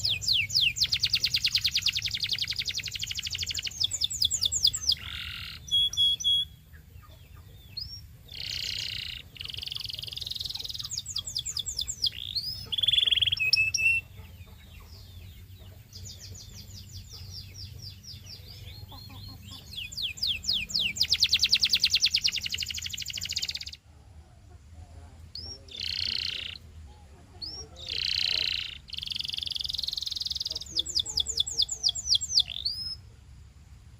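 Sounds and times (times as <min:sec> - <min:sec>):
canary singing: 0:00.0 - 0:23.8, 0:25.2 - 0:33.1.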